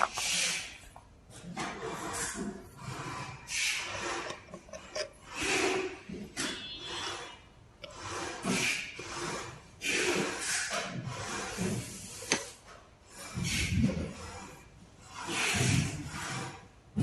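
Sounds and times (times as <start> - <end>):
hand rubbing and scraping parts: 0.0 - 17.0.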